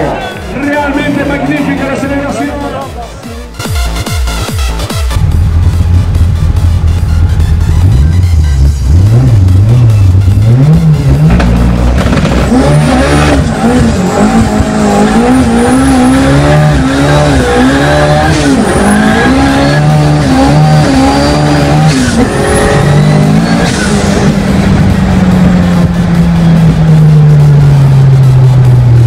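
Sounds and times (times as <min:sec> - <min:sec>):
car engine accelerating: 0:05.1 - 0:29.0.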